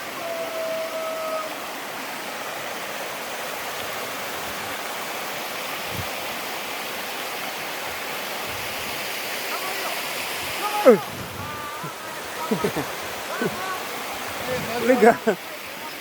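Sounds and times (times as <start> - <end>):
rushing stream water: 0.0 - 16.0.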